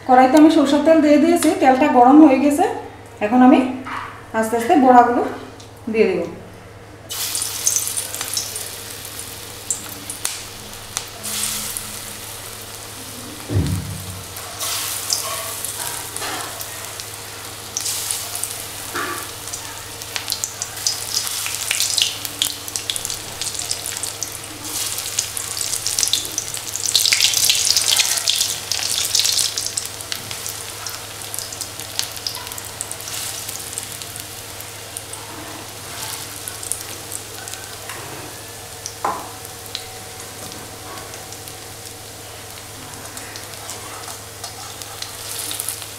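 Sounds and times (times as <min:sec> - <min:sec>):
fritters sizzling in hot oil: 0:07.1 - 0:45.9.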